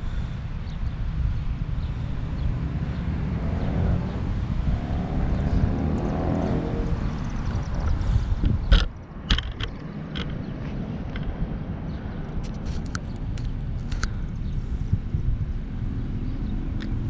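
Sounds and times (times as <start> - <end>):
vehicle engine running: 0.0 - 17.0
wind rumble on microphone: 0.0 - 17.0.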